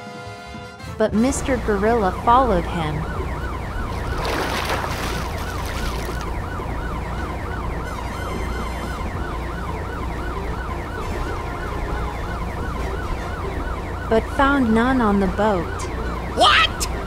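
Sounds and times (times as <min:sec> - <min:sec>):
siren yelping: 0:01.6 - 0:17.0.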